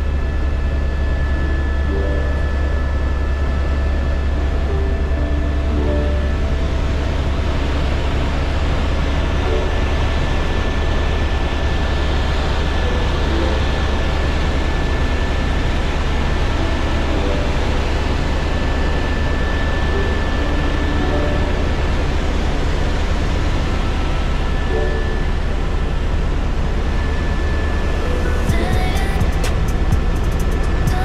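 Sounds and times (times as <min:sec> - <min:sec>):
small aircraft engine drone: 0:00.0 - 0:31.0
thin steady whine: 0:00.0 - 0:31.0.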